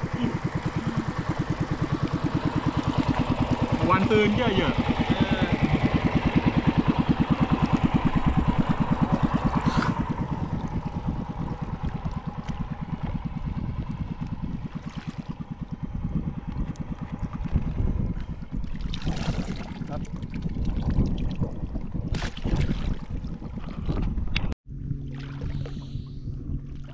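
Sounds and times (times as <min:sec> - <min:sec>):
boat engine putting: 0:00.0 - 0:26.9.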